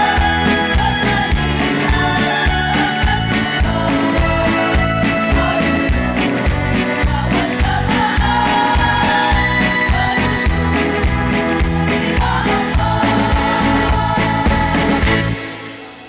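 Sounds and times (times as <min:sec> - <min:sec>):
choir with instrumental backing: 0:00.0 - 0:16.0.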